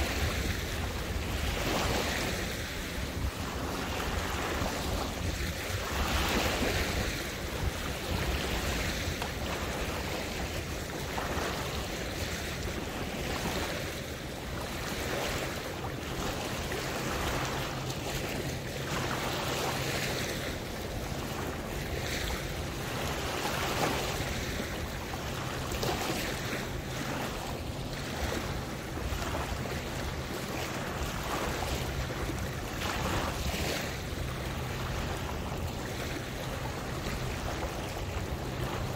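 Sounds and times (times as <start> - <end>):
water lapping and splashing: 0.0 - 38.9.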